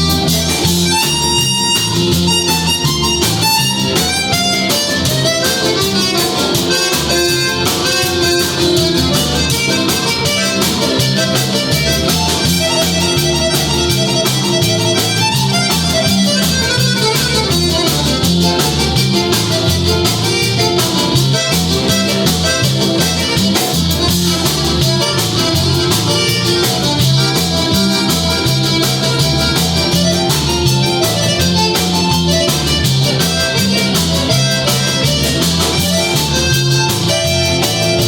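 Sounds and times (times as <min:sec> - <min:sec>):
electric guitar: 0:00.0 - 0:38.0
steady drum beat: 0:00.0 - 0:38.0.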